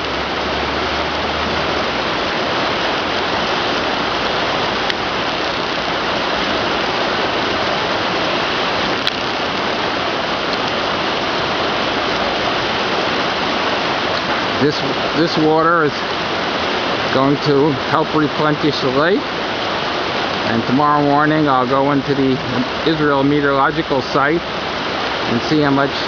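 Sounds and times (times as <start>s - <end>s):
river rushing: 0.0s - 26.0s.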